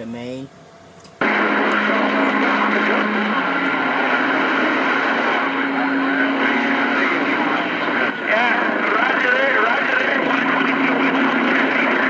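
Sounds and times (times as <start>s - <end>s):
low steady radio tone: 0.0s - 12.0s
radio static and hiss: 1.2s - 12.0s.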